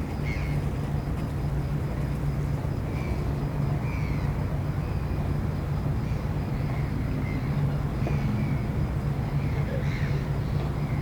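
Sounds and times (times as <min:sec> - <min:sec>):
outdoor noise: 0:00.0 - 0:11.0.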